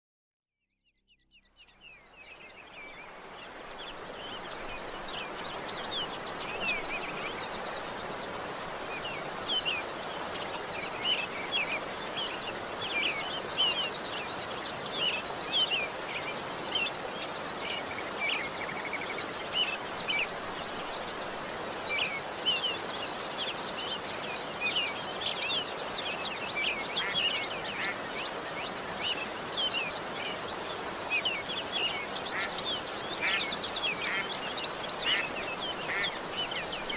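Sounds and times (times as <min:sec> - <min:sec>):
small birds chirping: 0:00.7 - 0:36.9
background hiss: 0:01.6 - 0:36.9.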